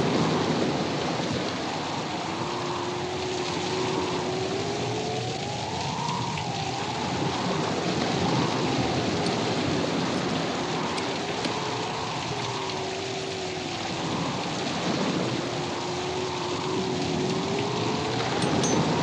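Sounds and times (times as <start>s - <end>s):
breaking surf: 0.0s - 19.0s
heavy rain: 0.0s - 19.0s
faint wavering tone: 1.5s - 19.0s.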